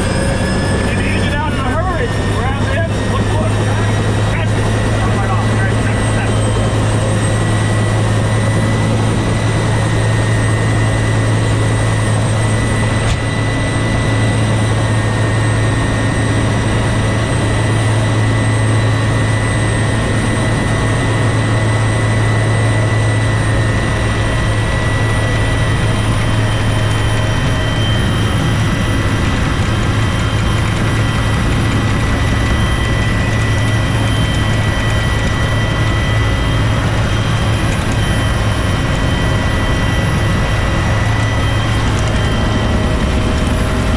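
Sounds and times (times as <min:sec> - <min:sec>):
helicopter rotor drone: 0:00.0 - 0:43.9
high turbine whine: 0:00.0 - 0:43.9.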